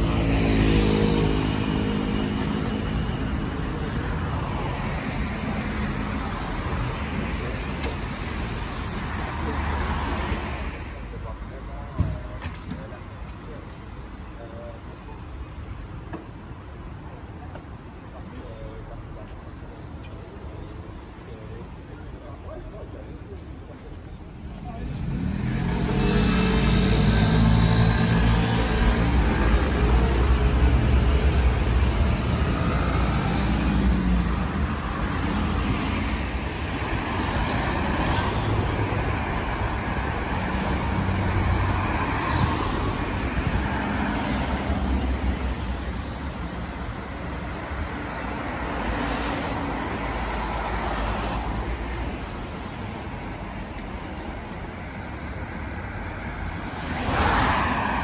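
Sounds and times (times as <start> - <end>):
vehicles driving past: 0.0 - 58.0.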